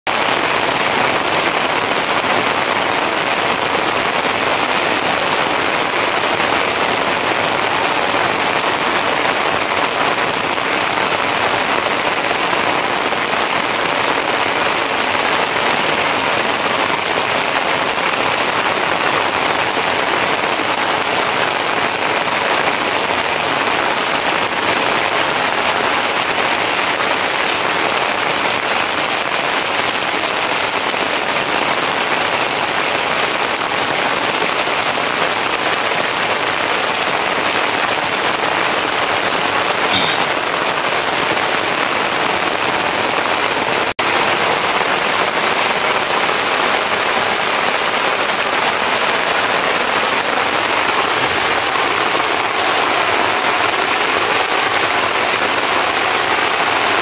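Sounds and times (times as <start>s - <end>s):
rain on thatched roofs: 0.0s - 57.0s.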